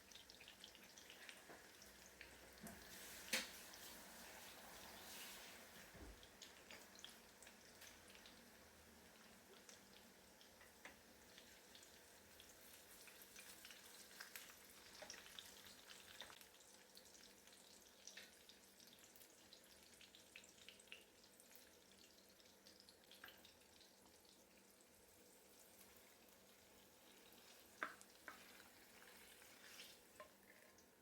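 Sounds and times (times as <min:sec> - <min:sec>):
eggs frying in oil: 0:00.0 - 0:31.0.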